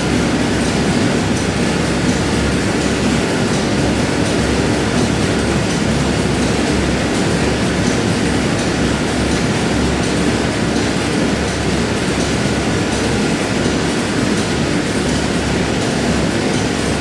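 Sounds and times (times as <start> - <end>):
industrial machinery din: 0.0 - 17.0.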